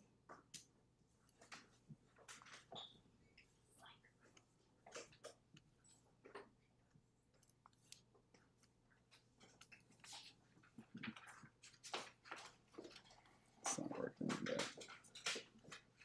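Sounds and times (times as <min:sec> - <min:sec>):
soft clicks and rustles: 0:00.2 - 0:16.0.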